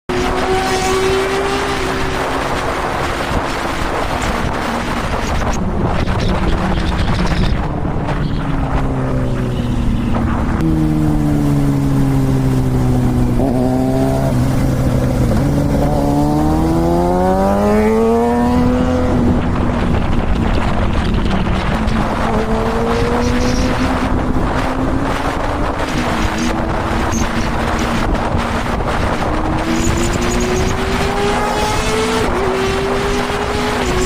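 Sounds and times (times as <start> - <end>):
motorcycle engine revving: 0.1 - 34.0
wind rush: 0.1 - 34.0.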